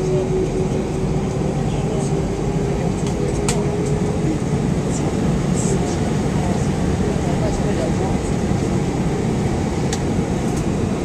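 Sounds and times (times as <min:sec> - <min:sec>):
airplane cabin engine hum: 0:00.0 - 0:11.0.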